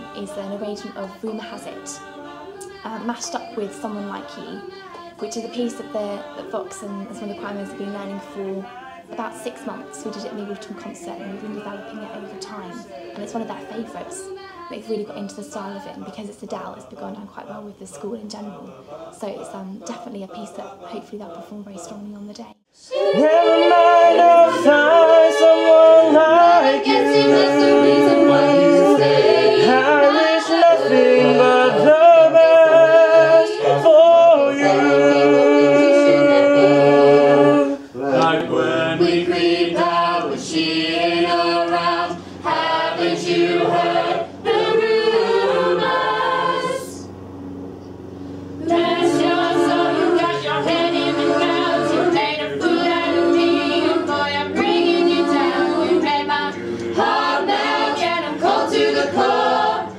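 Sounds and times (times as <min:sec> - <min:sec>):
choir singing a cappella: 0:00.0 - 0:47.2, 0:48.5 - 0:59.9.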